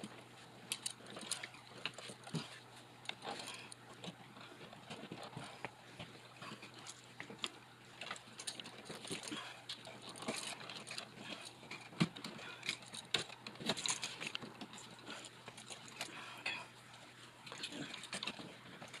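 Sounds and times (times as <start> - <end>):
wires clicking and rustling: 0.0 - 19.0.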